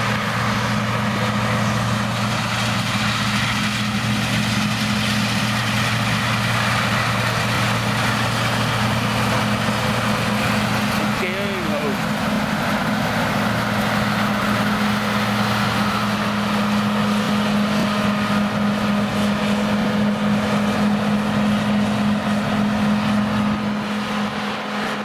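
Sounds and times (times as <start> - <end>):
motor drone: 0.0 - 25.0.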